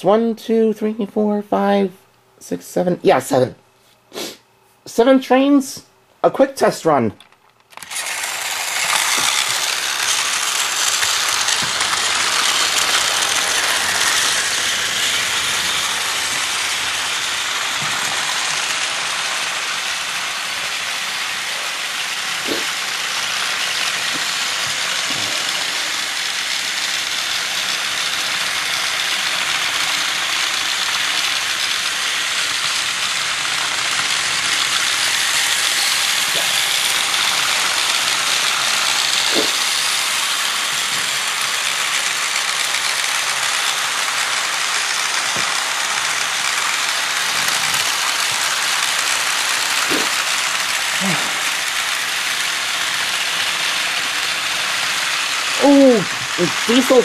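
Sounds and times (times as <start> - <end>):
toy train motors whirring: 7.2 - 57.0.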